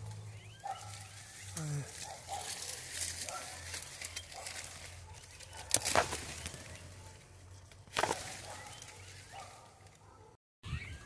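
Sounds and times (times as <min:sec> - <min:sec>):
brush rustling and crackling: 0:00.0 - 0:10.3.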